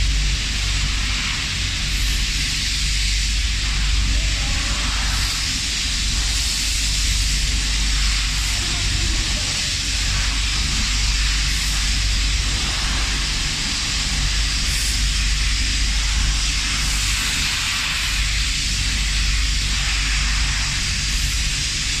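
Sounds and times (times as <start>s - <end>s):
hiss of moving air: 0.0s - 22.0s
low machine drone: 0.0s - 22.0s.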